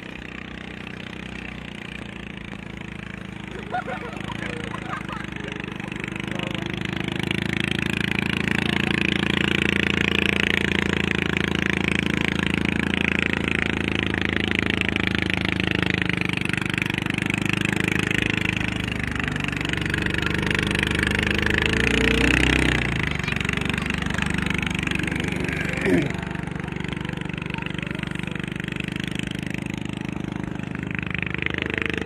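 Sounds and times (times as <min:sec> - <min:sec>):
racing boat engines: 0:00.0 - 0:32.0.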